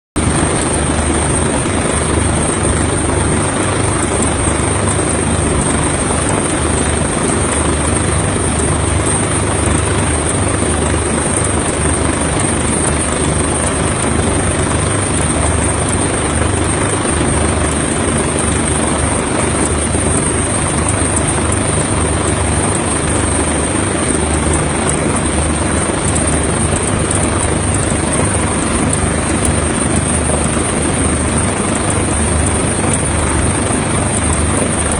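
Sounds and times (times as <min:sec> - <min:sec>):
helicopter rotor and engine: 0:00.2 - 0:34.9.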